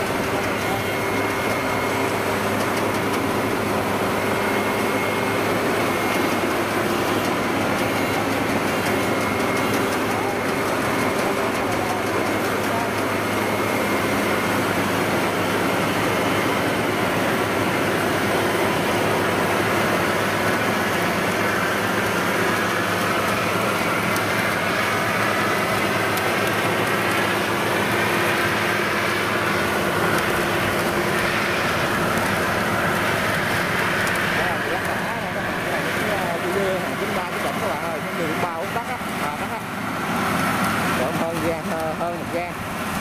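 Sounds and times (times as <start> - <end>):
combine harvester running: 0.0 - 43.0
wavering whine: 0.0 - 43.0.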